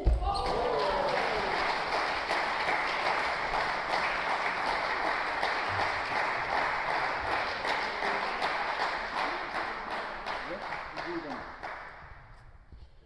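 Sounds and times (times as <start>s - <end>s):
spectators applauding: 0.2s - 12.1s.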